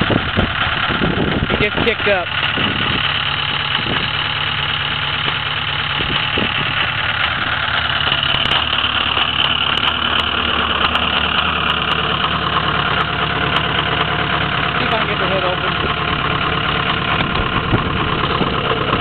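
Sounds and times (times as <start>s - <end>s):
diesel engine high idle: 0.0s - 19.0s.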